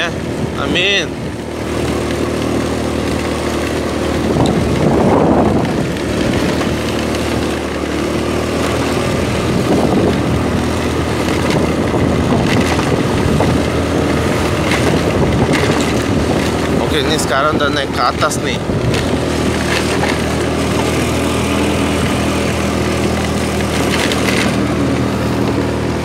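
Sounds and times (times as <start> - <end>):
vehicle engine running: 0.0 - 26.0
wind noise on microphone: 0.0 - 26.0.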